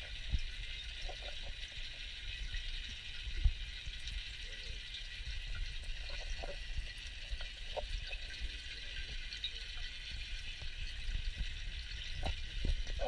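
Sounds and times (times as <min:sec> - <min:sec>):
small water sounds: 0:00.0 - 0:13.0.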